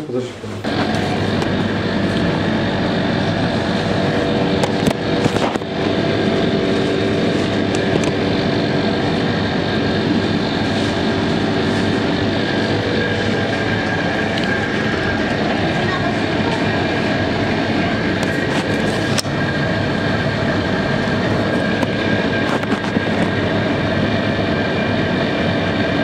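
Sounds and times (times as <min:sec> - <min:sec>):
mechanical hum with held tones: 0:00.0 - 0:26.0.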